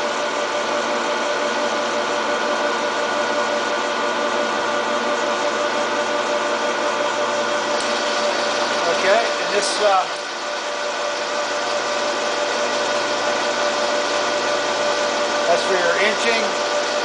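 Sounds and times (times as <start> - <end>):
lathe whining: 0.0 - 17.0
mechanical hum: 0.0 - 17.0.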